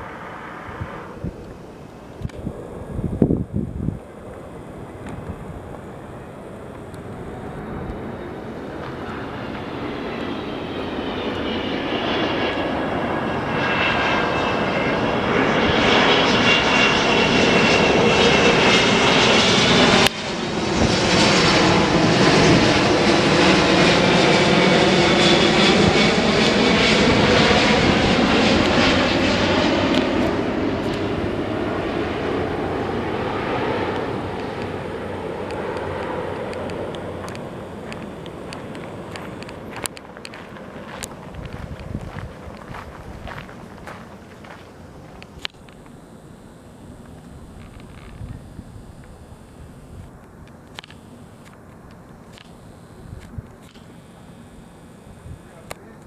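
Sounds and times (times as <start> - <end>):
jet airliner passing overhead: 0.0 - 56.0.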